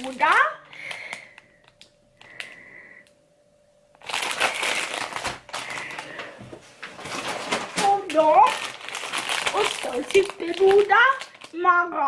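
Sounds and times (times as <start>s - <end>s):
plastic packet crinkling: 0.0s - 2.7s, 3.9s - 11.8s.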